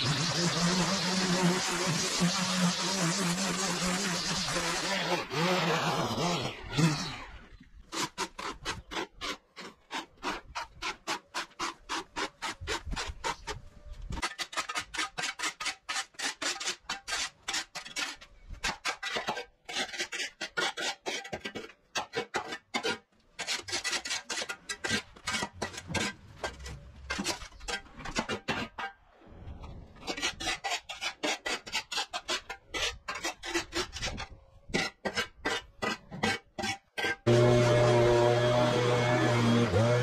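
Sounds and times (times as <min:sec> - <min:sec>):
shovel scraping concrete: 0:00.0 - 0:40.0.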